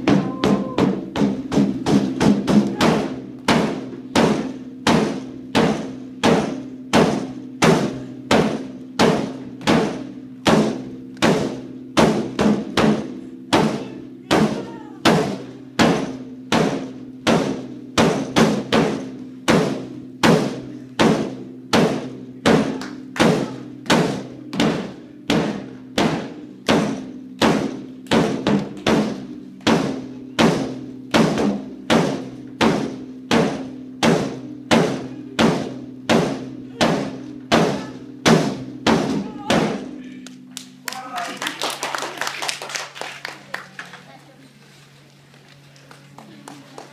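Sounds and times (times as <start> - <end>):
large drum beating: 0.0 - 40.1.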